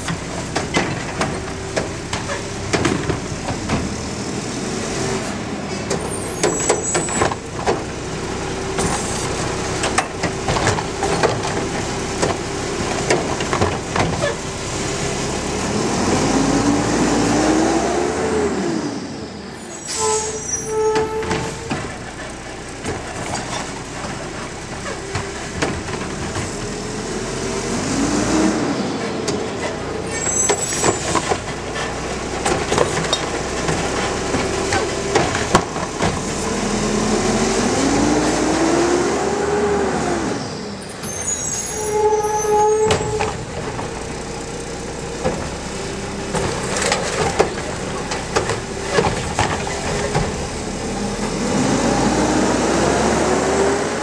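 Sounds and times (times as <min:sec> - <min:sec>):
carts clanking and banging: 0:00.0 - 0:16.6, 0:19.9 - 0:38.1, 0:40.8 - 0:53.0
diesel engine revving: 0:00.0 - 0:54.0.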